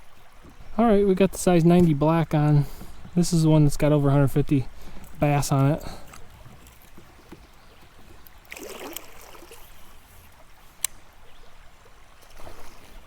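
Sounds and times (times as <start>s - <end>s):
river water lapping: 0.0s - 13.0s.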